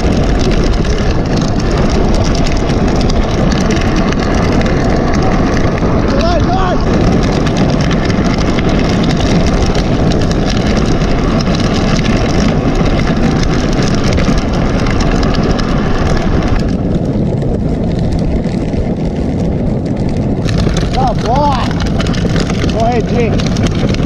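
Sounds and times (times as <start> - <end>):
bicycle rolling on asphalt: 0.0 - 24.0
wind buffeting microphone: 0.0 - 24.0.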